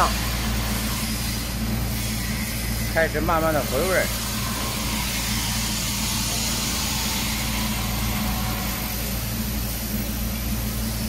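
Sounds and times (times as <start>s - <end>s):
frying machine humming: 0.0s - 11.0s.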